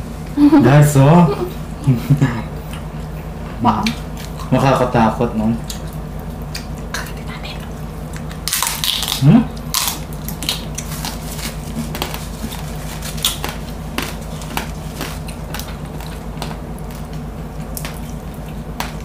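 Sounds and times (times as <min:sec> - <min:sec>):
chewing crispy pork: 0:01.8 - 0:19.0.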